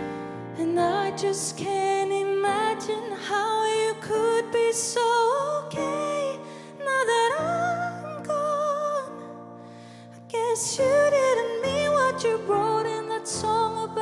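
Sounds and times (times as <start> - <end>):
woman singing a slow ballad: 0.0 - 14.0.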